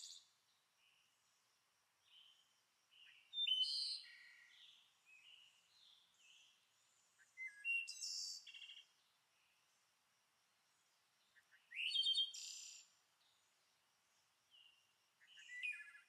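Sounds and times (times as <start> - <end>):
small birds chirping and singing: 0.0 - 1.2, 2.0 - 9.8, 10.8 - 13.7, 14.4 - 16.0.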